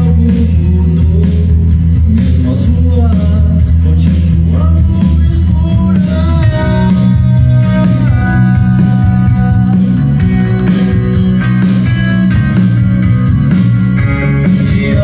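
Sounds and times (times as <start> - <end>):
rock song through speakers: 0.0 - 15.0.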